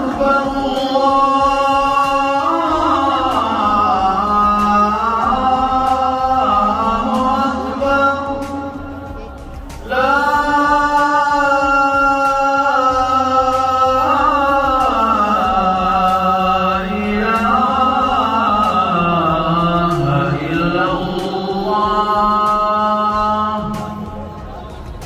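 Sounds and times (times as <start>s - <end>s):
solo vocal chant: 0.0s - 25.0s.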